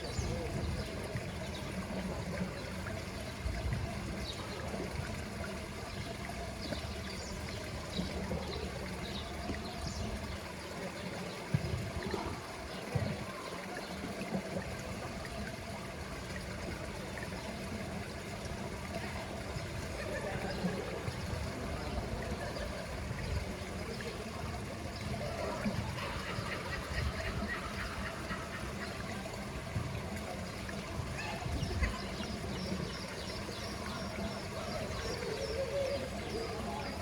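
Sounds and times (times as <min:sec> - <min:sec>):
pool water trickling: 0:00.0 - 0:37.0.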